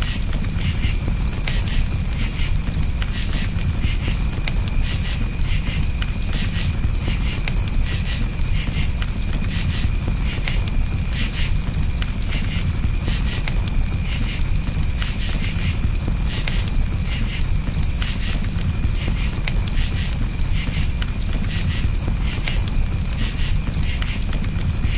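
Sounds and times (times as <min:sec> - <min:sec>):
campfire crackling and popping: 0:00.0 - 0:24.9
crickets chirping: 0:00.0 - 0:24.9.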